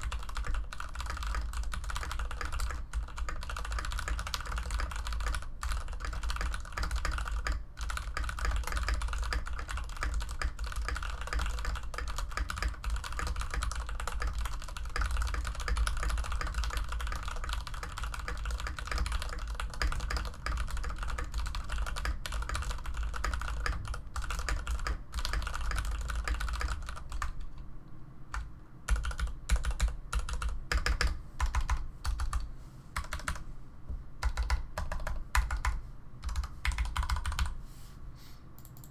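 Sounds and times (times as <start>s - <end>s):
spaced key presses: 0.0s - 27.6s, 28.3s - 37.6s, 38.6s - 38.9s
typing on mechanical keyboard: 0.0s - 27.6s, 28.3s - 33.4s, 34.2s - 37.6s, 38.6s - 38.9s.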